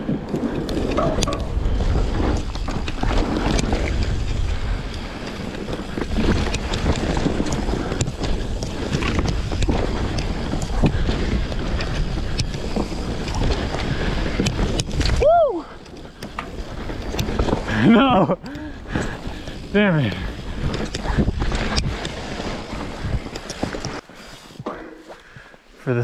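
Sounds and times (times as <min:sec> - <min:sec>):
wind buffeting microphone: 0:00.0 - 0:23.8
bike clicks and rattles: 0:00.0 - 0:25.7
tyres rumbling on dirt trail: 0:00.0 - 0:26.0.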